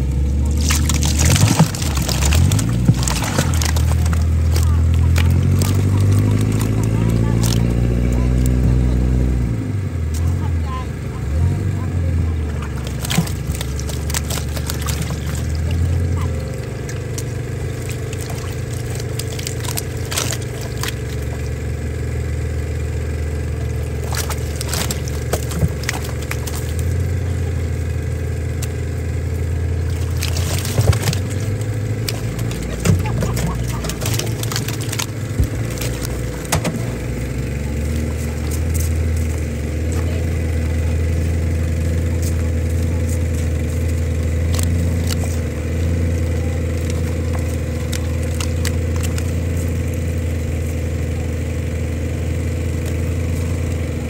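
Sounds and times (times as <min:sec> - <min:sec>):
motor humming: 0:00.0 - 0:54.0.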